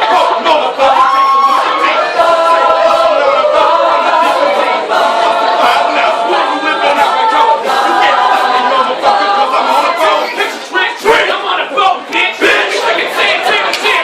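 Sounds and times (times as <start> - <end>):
a cappella group singing: 0.0 - 11.3, 12.4 - 14.0.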